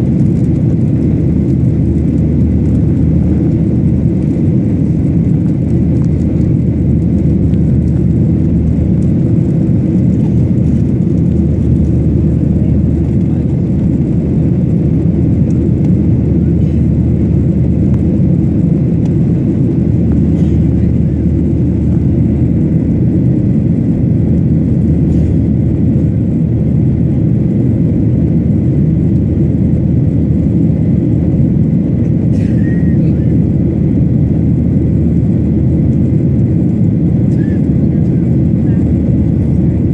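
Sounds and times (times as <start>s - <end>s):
jet engines and airflow rumbling: 0.0s - 39.9s.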